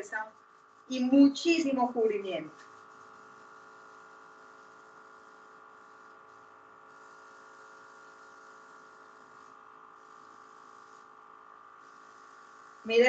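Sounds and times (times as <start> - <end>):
airbrush air hiss: 0.0 - 13.0
steady hum: 0.0 - 13.0.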